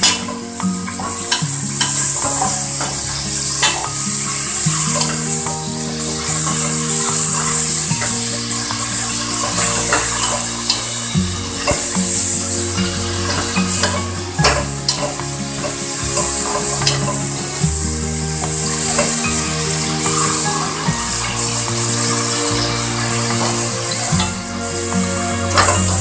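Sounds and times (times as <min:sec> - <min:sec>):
background music with bass line: 0:00.0 - 0:26.0.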